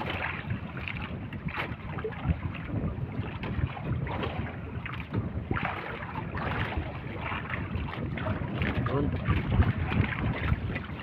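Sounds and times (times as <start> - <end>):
moving sea water: 0.0 - 11.0
wind buffeting microphone: 0.0 - 11.0.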